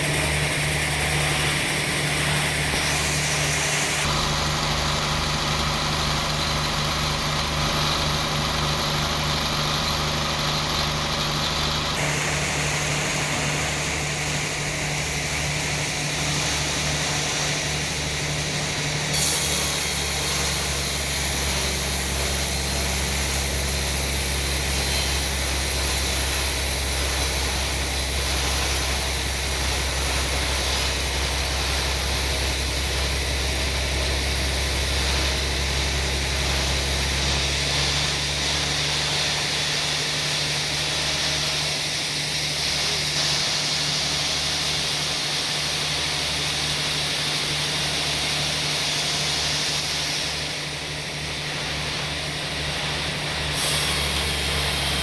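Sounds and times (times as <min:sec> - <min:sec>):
sawmill machinery hum: 0:00.0 - 0:55.0.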